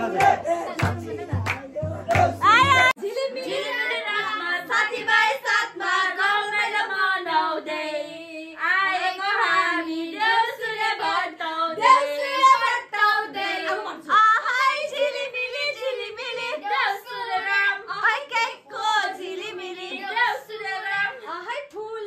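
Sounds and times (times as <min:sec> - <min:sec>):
girls singing together: 0:00.0 - 0:22.0.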